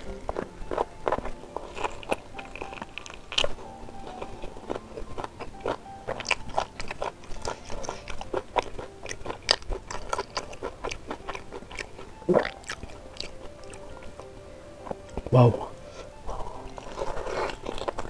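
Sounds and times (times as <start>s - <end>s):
person chewing with wet smacks: 0.0s - 15.3s, 16.0s - 18.0s.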